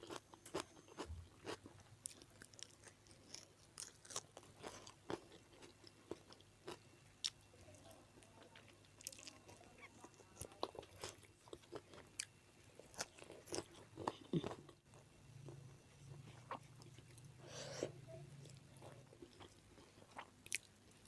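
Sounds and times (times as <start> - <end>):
chewing food: 0.0 - 17.3, 18.3 - 21.0.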